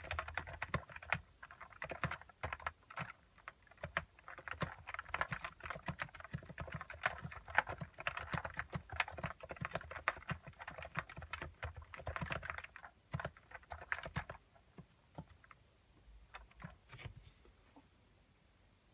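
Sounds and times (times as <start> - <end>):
keyboard typing: 0.0 - 15.6, 16.3 - 17.1.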